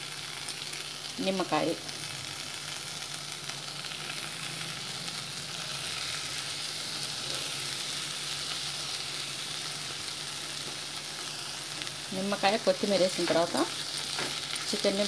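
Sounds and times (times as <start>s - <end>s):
filling sizzling in a frying pan: 0.0s - 15.0s.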